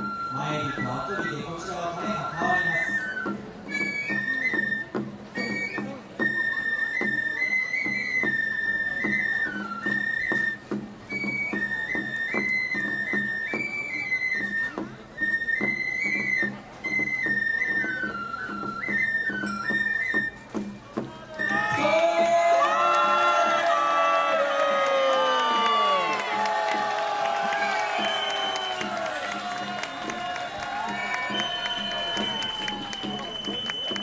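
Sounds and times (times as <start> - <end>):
bamboo flute melody: 0.0 - 34.0.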